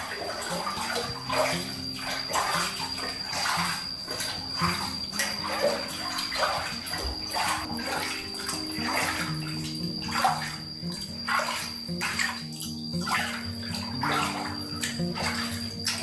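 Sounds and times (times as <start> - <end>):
soft background music: 0.0 - 16.0
water splashing in plastic basin: 0.0 - 16.0.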